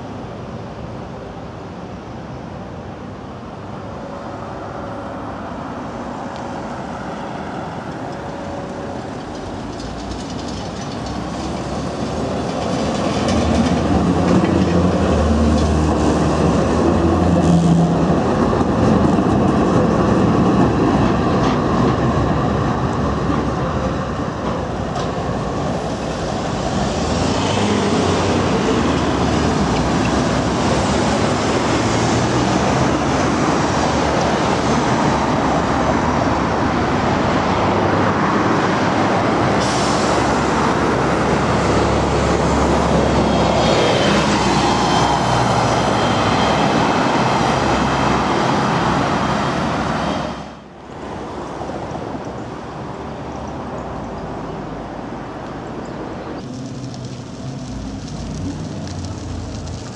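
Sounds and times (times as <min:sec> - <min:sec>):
tram wheels rumbling on rails: 0:03.5 - 0:59.9.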